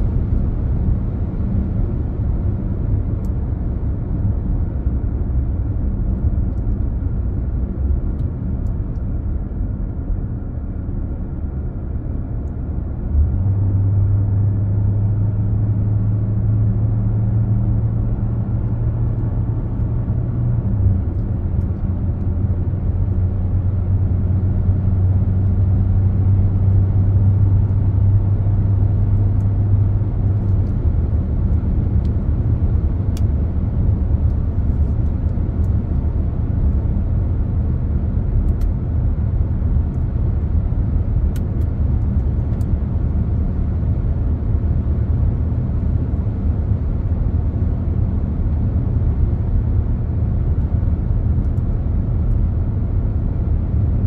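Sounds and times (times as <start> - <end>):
car road and engine rumble: 0.0 - 54.0
low droning hum: 0.0 - 54.0.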